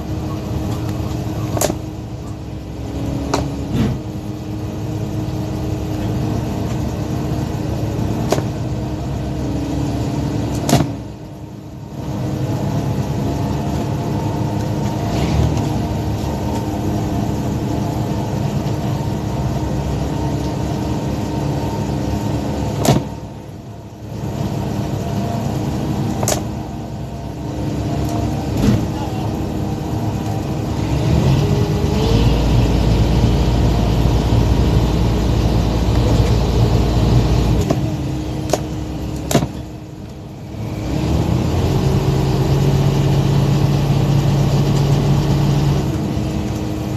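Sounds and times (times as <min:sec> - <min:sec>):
boat engine running: 0:00.0 - 0:46.9
net hauler machinery running: 0:00.0 - 0:46.9.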